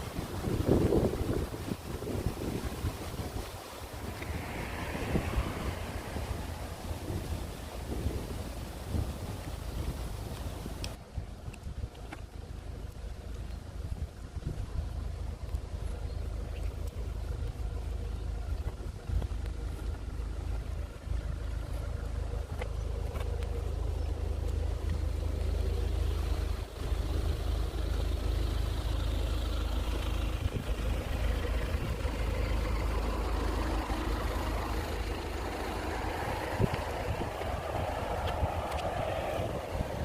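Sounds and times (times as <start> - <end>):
rustling hiss of wind: 0.0 - 22.4, 23.0 - 40.0
wind buffeting microphone: 0.0 - 27.3, 30.1 - 40.0.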